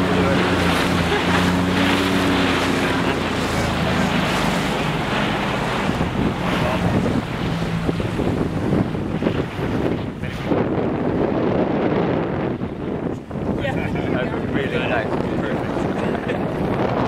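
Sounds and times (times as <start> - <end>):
boat engine low hum: 0.0 - 17.0
water rushing past hull: 0.0 - 17.0
wind buffeting microphone: 0.0 - 17.0.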